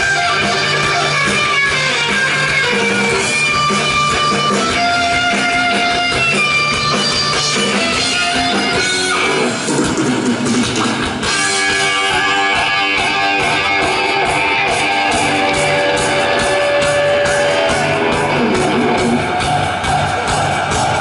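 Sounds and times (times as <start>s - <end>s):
bass guitar: 0.0s - 21.0s
drums: 0.0s - 21.0s
electric guitar: 0.0s - 21.0s.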